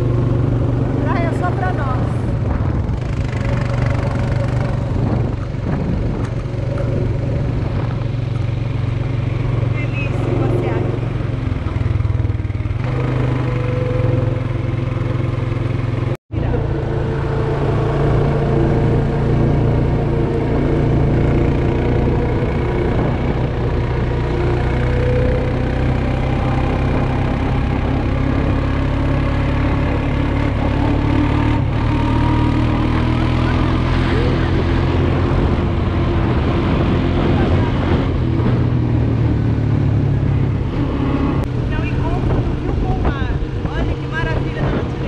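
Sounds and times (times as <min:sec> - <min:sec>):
quad bike engine running: 0:00.0 - 0:45.0
wind noise on microphone: 0:00.0 - 0:45.0.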